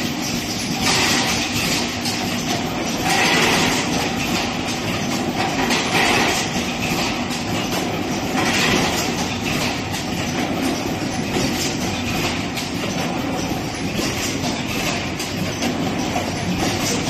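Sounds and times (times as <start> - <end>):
machine rattle and clatter: 0.0 - 17.0.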